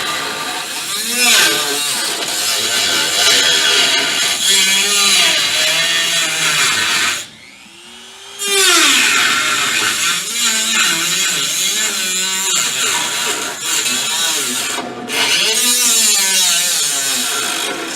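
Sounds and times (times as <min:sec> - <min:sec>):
rotary tool cutting sheet metal: 0:00.0 - 0:17.9.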